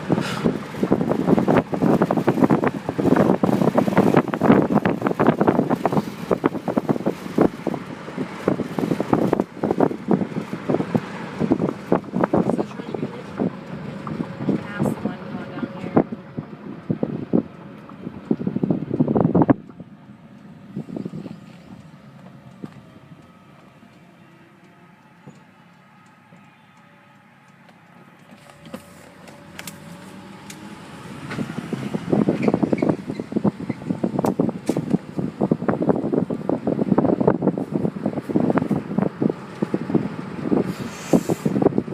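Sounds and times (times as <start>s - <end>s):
wind buffeting microphone: 0.0s - 24.5s, 28.5s - 41.9s
car road noise: 0.0s - 41.9s.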